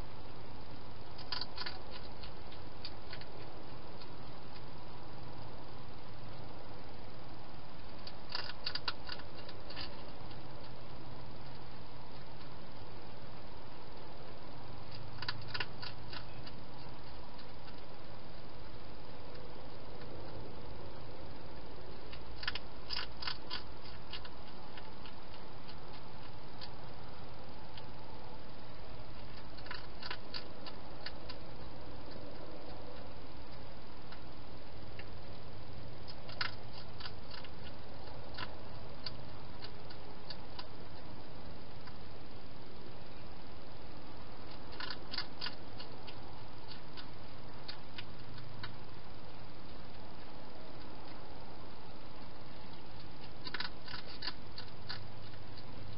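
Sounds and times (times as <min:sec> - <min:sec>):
steady hiss: 0:00.0 - 0:55.9
hedgehog crunching food: 0:00.3 - 0:55.9.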